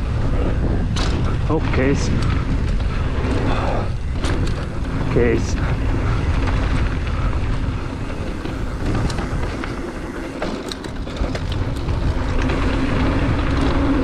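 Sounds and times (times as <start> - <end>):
bike clicks and rattles: 0.0 - 14.0
bike tyres rolling on dirt: 0.0 - 14.0
wind on microphone: 0.0 - 14.0.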